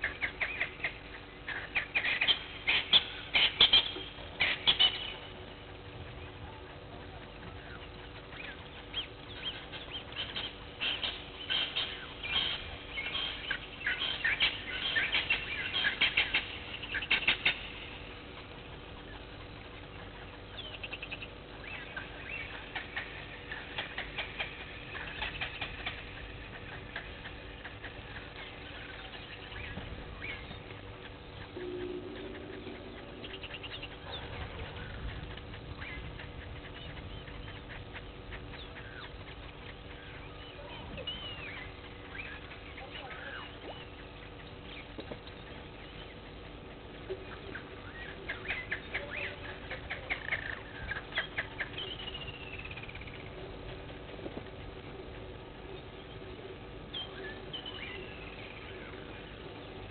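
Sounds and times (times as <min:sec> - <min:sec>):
bird chirps: 0:07.5 - 0:18.1, 0:19.0 - 0:53.4, 0:55.6 - 0:59.9.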